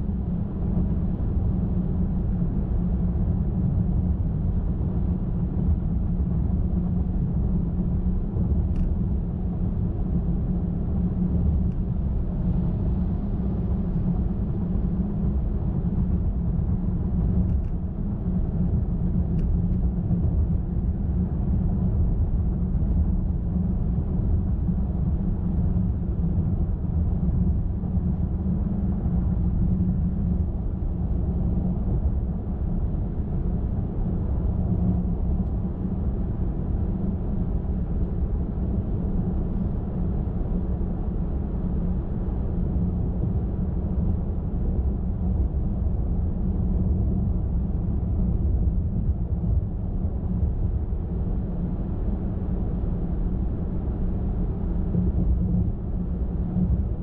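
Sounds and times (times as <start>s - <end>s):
car driving on highway: 0.1s - 56.8s.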